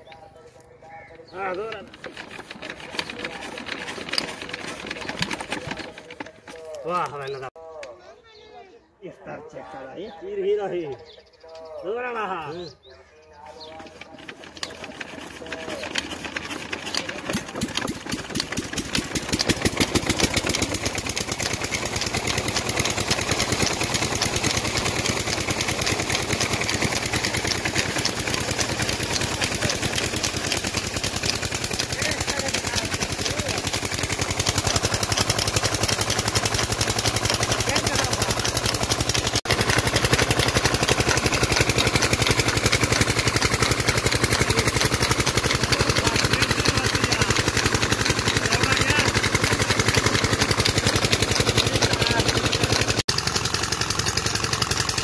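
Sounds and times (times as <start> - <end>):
diesel pump engine chugging: 0.0 - 7.6, 13.4 - 55.0.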